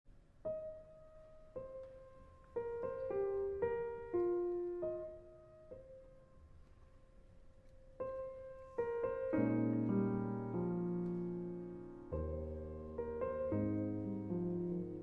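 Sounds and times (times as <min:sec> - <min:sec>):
gentle piano melody: 0:00.4 - 0:15.0.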